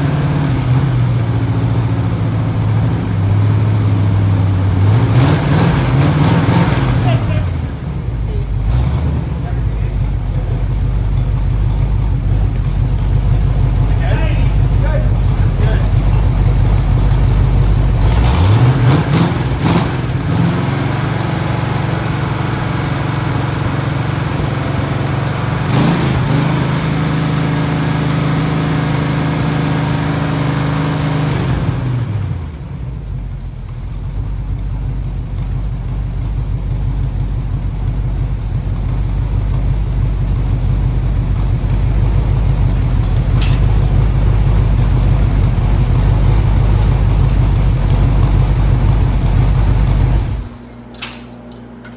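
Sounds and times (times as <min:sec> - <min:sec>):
car engine revving: 0:00.0 - 0:36.0, 0:37.0 - 0:50.9.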